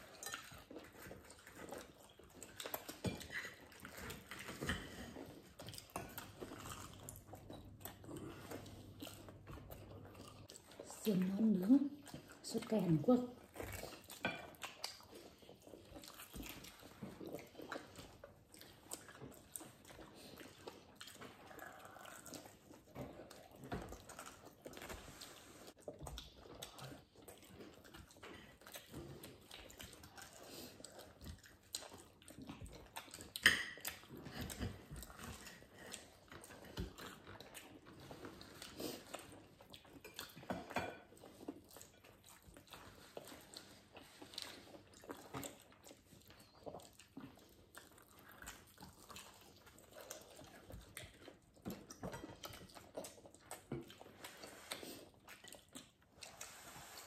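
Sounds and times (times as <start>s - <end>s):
people chewing crispy food: 0.0s - 57.0s.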